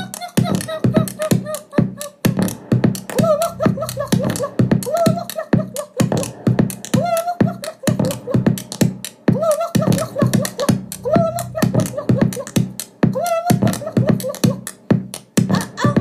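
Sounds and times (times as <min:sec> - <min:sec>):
dance track drum beat: 0:00.0 - 0:16.0.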